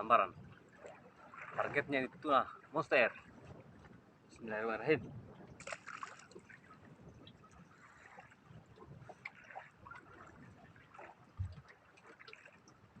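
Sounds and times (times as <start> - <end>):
water lapping around boat: 0.0 - 13.0.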